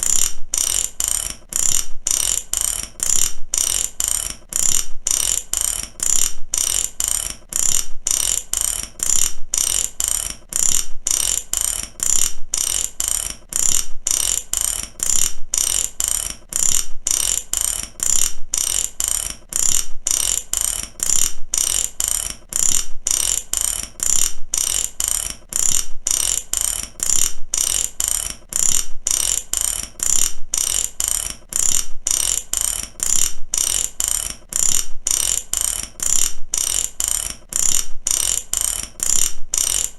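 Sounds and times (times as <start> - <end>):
ratchet wrench clicking: 0.0 - 39.9.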